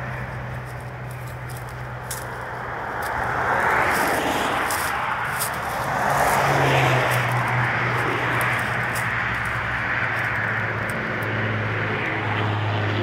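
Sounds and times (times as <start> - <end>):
steady low hum: 0.0 - 12.3
cars passing: 0.0 - 13.0.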